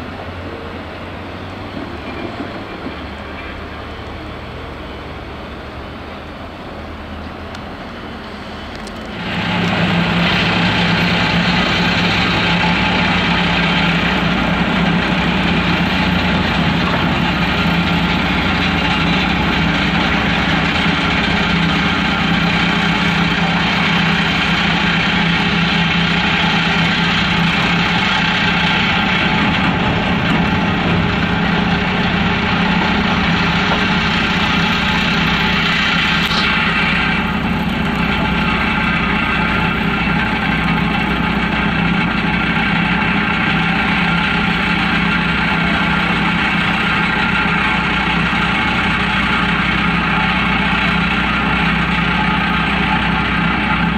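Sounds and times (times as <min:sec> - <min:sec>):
heavy diesel engines running: 0:00.0 - 0:53.9.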